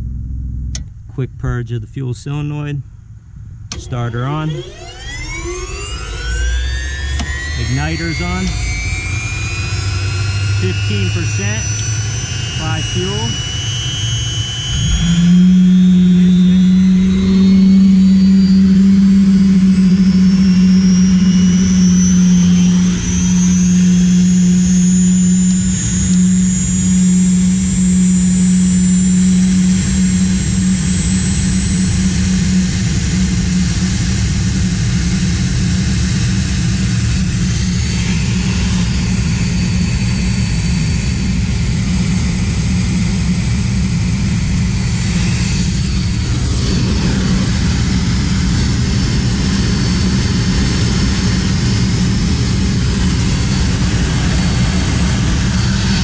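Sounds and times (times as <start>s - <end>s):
gas turbine whine: 0.0s - 56.0s
loud low hum: 0.0s - 56.0s.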